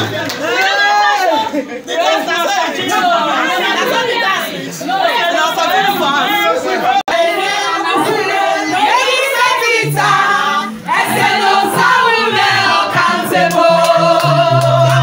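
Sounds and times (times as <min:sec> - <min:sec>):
group of voices singing: 0:01.9 - 0:15.0.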